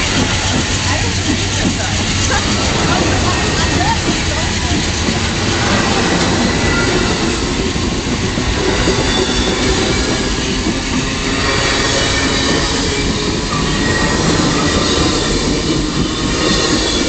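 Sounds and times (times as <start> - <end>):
train wheels rumbling on rail: 0.0 - 17.0
wheels squealing: 0.0 - 17.0.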